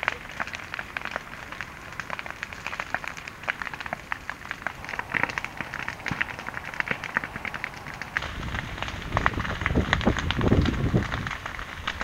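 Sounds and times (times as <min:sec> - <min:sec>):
burning grass crackling: 0:00.0 - 0:12.0.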